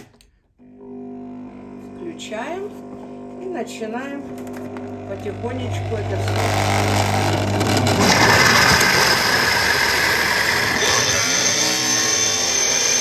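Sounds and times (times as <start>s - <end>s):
blender motor whirring: 0.6s - 13.0s.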